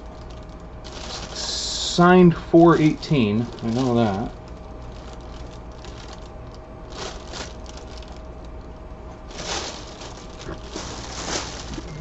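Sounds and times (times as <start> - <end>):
packaging rustling: 0.0 - 1.8, 3.1 - 12.0
low steady hum: 0.0 - 12.0.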